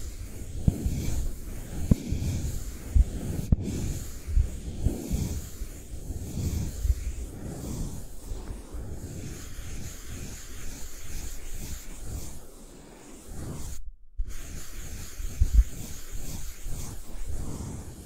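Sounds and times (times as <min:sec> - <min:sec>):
stick scratching small object: 0:00.0 - 0:18.0.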